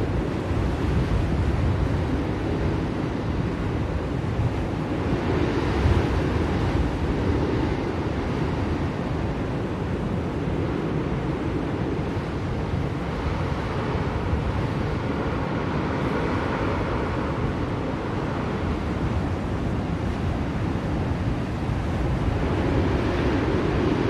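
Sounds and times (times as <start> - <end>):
blizzard wind blowing: 0.0 - 24.0.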